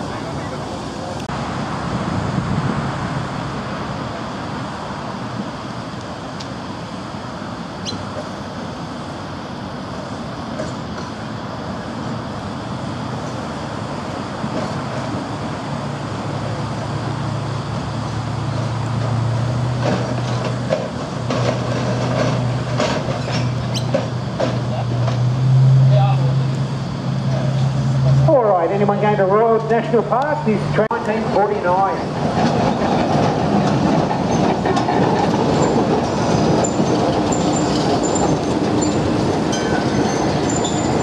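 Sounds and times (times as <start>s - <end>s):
electric tram running drone: 0.0s - 41.0s
tram wheels clicking on rails: 0.0s - 41.0s.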